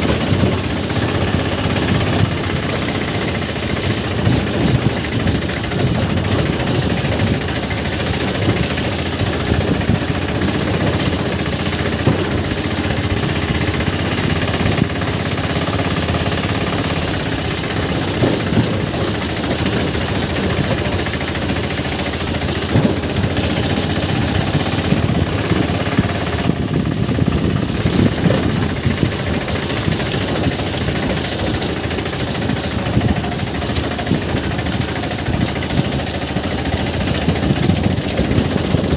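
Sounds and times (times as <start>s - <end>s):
knocks and rattles: 0.0s - 38.9s
motorcycle engine running: 0.0s - 38.9s.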